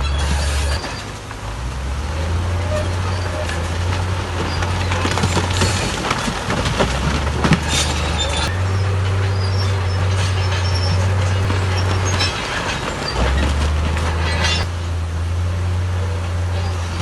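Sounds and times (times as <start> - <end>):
steel tracks clanking and squealing: 0.0 - 15.1, 15.7 - 17.0
bulldozer diesel engine drone: 0.0 - 17.0.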